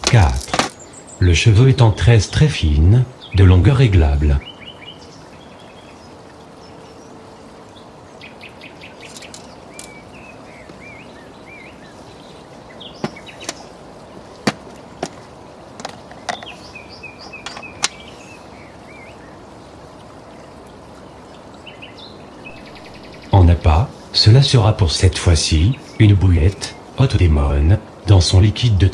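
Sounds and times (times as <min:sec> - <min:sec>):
small birds chirping: 0:00.0 - 0:27.3
outdoor background noise: 0:00.0 - 0:28.9.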